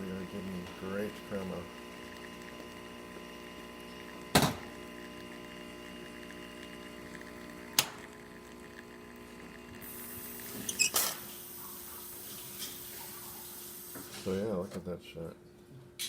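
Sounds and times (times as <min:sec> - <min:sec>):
espresso machine pump humming: 0:00.0 - 0:14.7.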